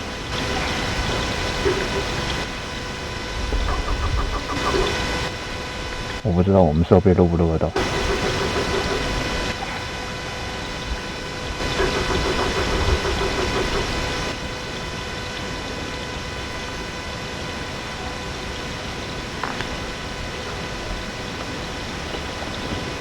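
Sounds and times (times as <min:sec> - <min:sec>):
faint electronic whine: 0:00.0 - 0:23.0
steady hiss: 0:00.0 - 0:23.0.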